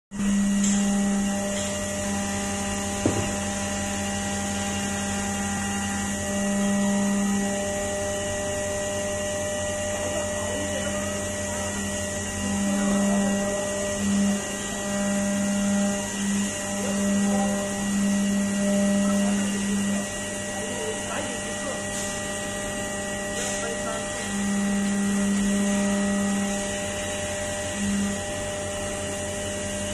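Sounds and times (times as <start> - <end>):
milling machine hum and whine: 0.1 - 29.9.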